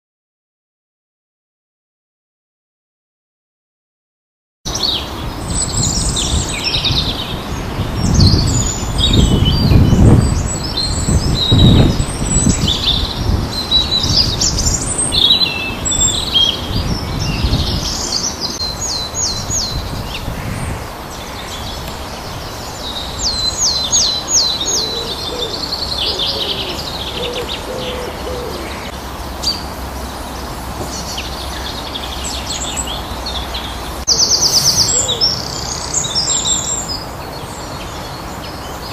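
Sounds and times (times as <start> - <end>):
birds singing and calling: 4.7 - 38.9.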